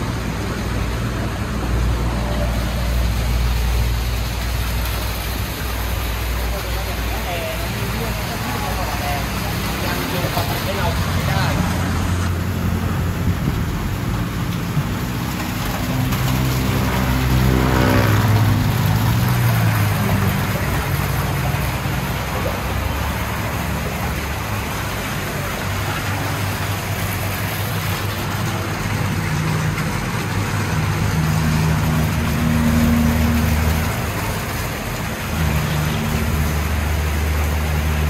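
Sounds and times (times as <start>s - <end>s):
vehicles going by: 0.0s - 38.0s.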